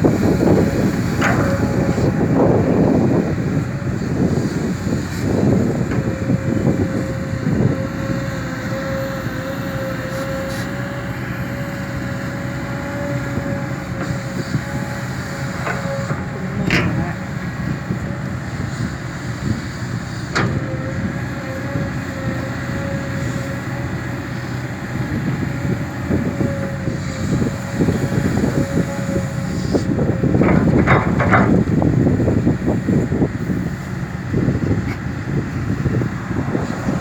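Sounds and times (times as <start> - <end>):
excavator engine running: 0.0 - 37.0.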